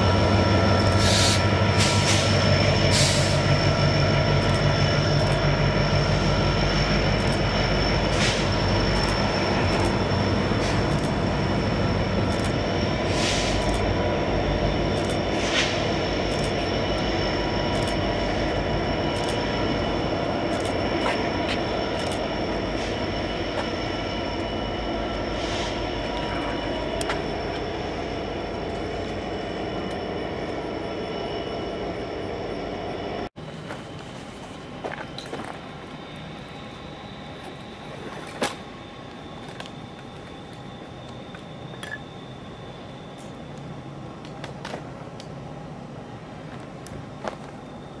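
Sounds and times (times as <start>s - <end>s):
diesel locomotive rumbling: 0.0s - 48.0s.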